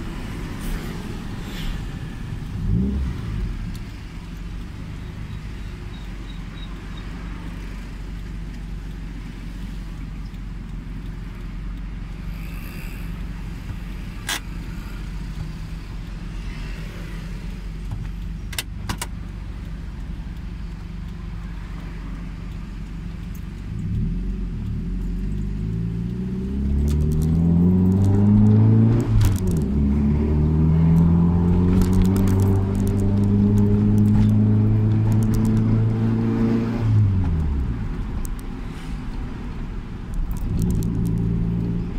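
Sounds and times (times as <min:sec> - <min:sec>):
car engine idling and revving: 0:00.0 - 0:41.9
sharp clicks: 0:03.6 - 0:36.3, 0:36.9 - 0:41.9.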